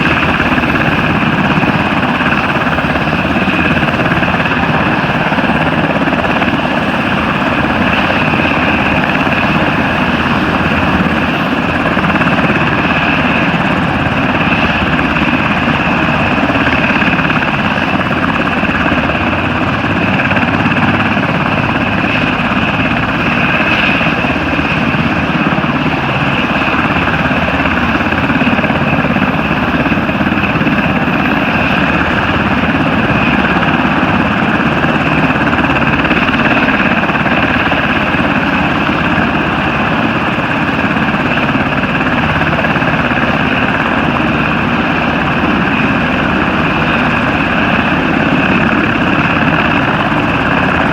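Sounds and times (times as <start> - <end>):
helicopter engine and rotor noise: 0.0 - 50.9.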